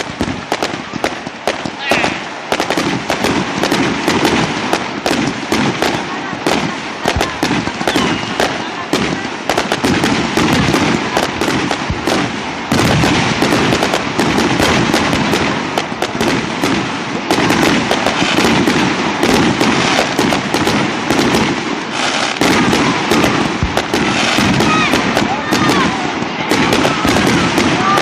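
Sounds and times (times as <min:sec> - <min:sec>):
fireworks crackling and popping: 0:00.0 - 0:28.0.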